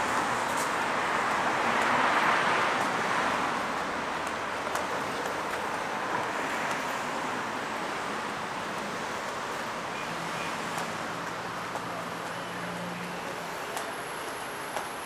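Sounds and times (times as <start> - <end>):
road noise of passing cars: 0.0 - 15.0.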